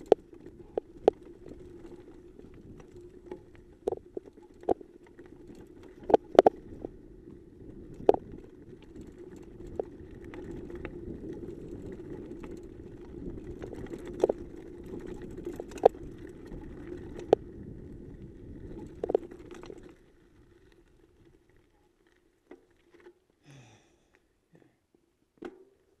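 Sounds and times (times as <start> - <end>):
bike tyres rumbling on dirt: 0.0 - 23.8.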